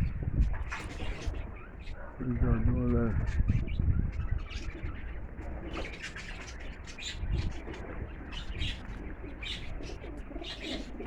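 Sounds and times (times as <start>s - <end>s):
birds chirping: 0.0s - 11.0s
pigeons cooing: 0.6s - 11.0s.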